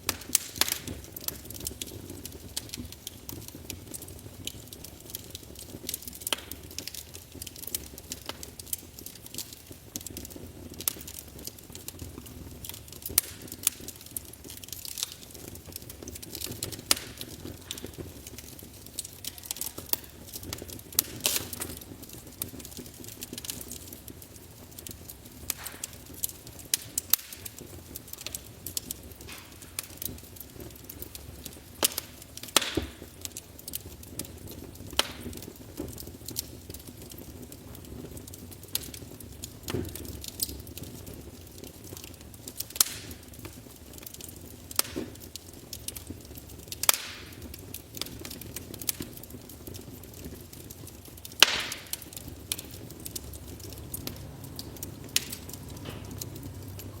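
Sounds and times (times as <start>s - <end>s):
fire pops and snaps: 0.0s - 57.0s
wood fire crackling: 0.0s - 57.0s.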